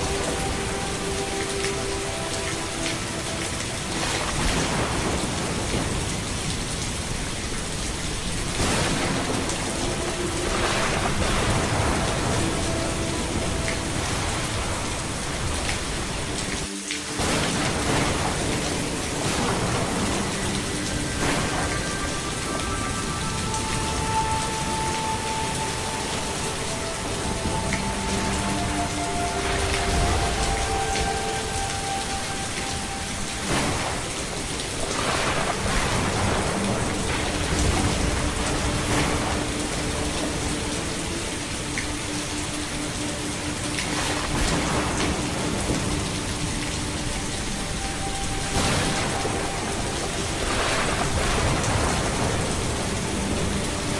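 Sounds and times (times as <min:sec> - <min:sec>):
heavy rain falling: 0:00.0 - 0:53.9
thunder rumbling: 0:00.0 - 0:53.9
thunder crack: 0:02.3 - 0:16.4, 0:17.1 - 0:41.5, 0:43.8 - 0:53.9.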